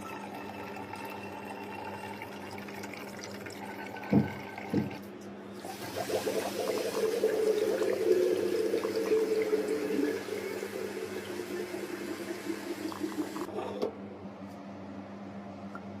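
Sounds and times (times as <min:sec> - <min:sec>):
coolant gurgling and bubbling: 0:00.0 - 0:05.0, 0:05.6 - 0:13.8.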